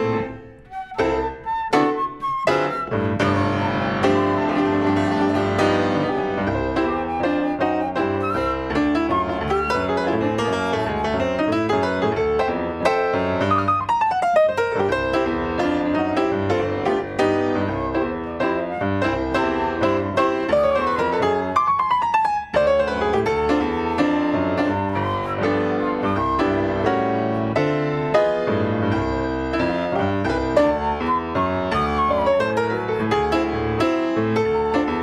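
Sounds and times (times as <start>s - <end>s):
jazz piano duet: 0.0s - 35.0s.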